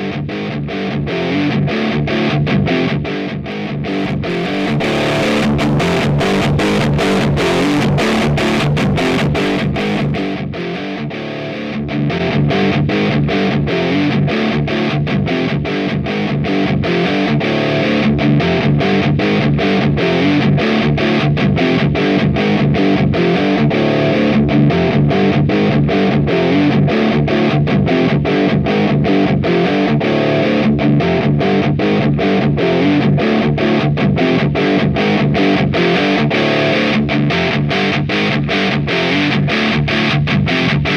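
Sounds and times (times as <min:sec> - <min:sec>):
distorted electric guitar chords: 0:00.0 - 0:40.9.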